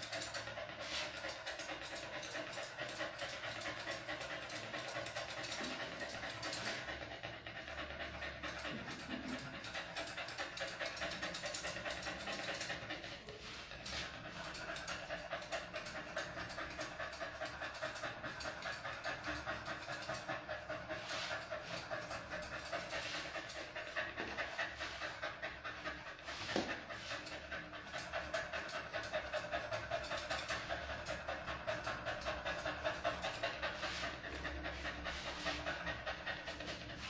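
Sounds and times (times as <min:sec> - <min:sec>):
dog panting: 0:00.0 - 0:37.0.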